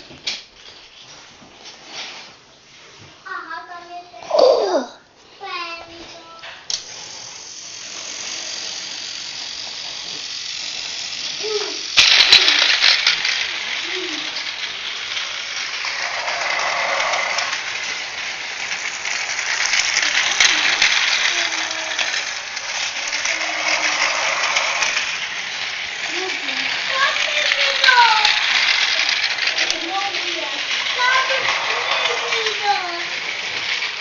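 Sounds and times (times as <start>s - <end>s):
toy train motor whirring: 5.5s - 34.0s
toy train wheels clattering: 6.0s - 34.0s.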